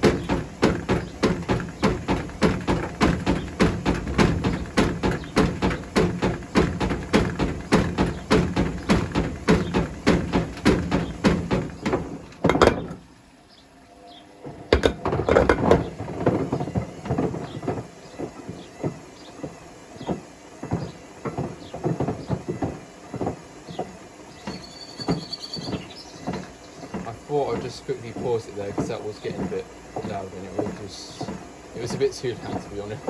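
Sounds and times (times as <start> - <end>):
bricks knocking in washing machine drum: 0.0 - 13.0, 14.7 - 33.0.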